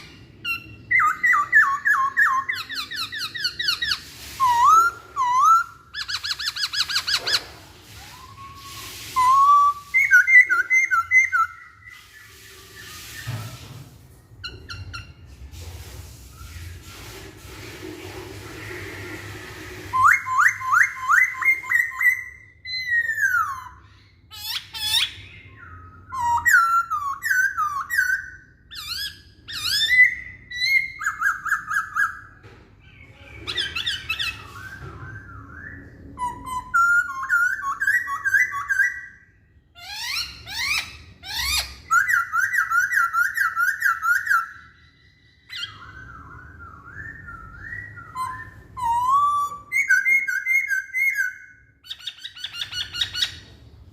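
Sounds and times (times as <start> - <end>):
bird singing whistled song: 0.0 - 13.7, 19.8 - 53.6.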